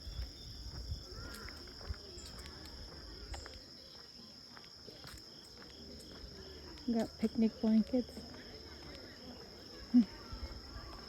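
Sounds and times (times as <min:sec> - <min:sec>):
insects chirping: 0:00.0 - 0:11.0
soft footsteps on a trail: 0:00.0 - 0:11.0.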